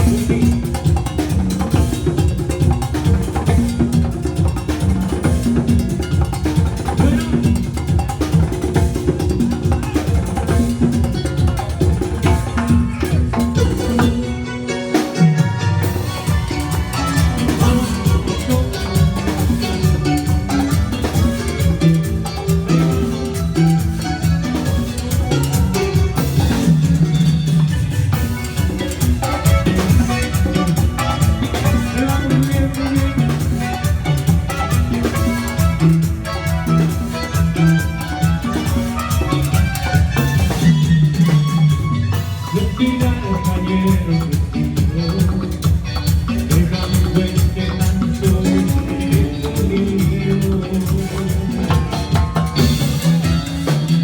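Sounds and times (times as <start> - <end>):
band playing latin dance music: 0.0 - 54.0.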